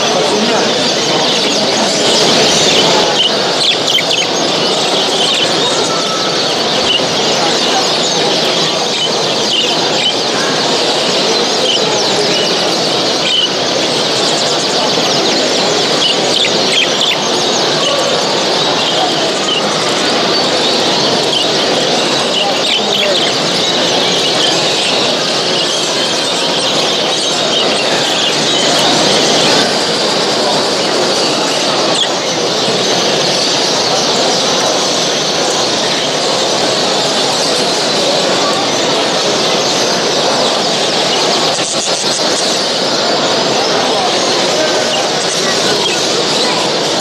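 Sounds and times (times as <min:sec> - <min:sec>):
background hubbub: 0:00.0 - 0:47.0
din of large hall: 0:00.0 - 0:47.0
small birds chirping: 0:00.0 - 0:47.0.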